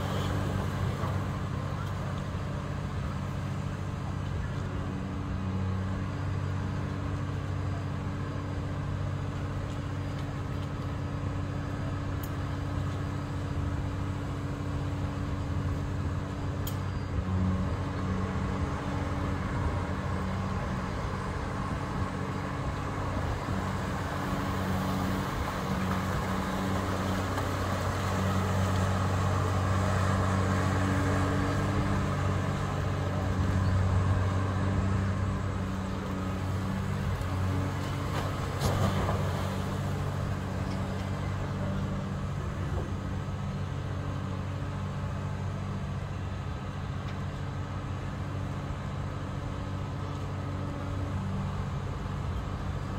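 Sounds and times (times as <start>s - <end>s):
diesel engine humming: 0.0s - 52.9s.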